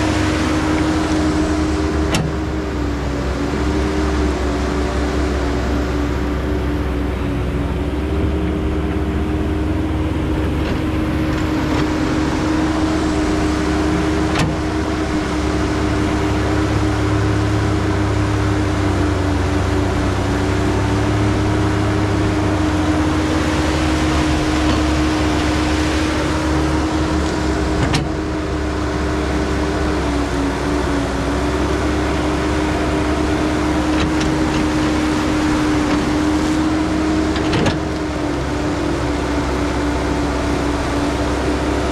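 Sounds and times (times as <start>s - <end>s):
excavator diesel engine droning: 0.0s - 41.9s
hydraulic whine: 0.0s - 41.9s.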